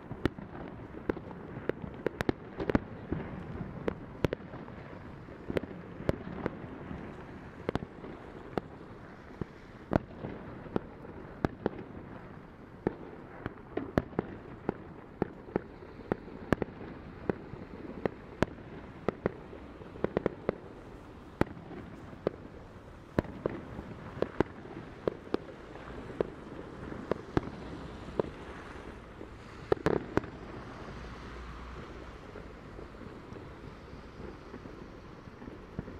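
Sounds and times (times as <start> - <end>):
fireworks exploding: 0.0 - 35.9.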